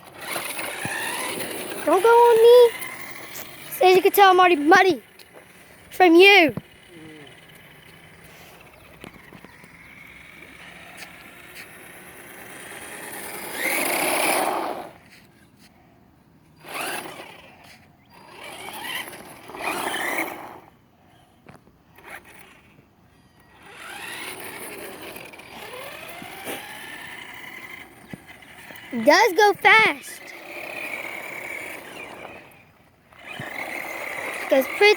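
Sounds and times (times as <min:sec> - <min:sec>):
toy truck electric motor whirring: 0:00.0 - 0:34.9.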